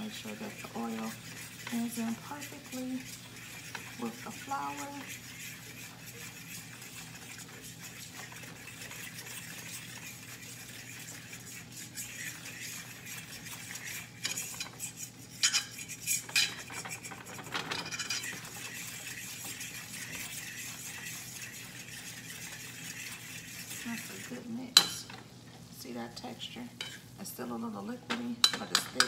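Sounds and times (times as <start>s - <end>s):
fork scraping a pan: 0.0s - 25.3s, 26.8s - 27.1s
oil sizzling: 0.0s - 29.0s.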